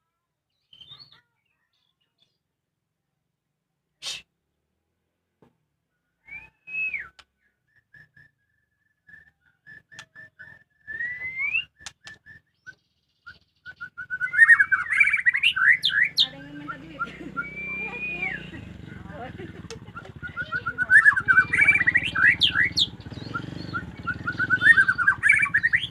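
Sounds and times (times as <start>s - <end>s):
songbird singing: 0.4s - 2.6s, 5.9s - 25.9s.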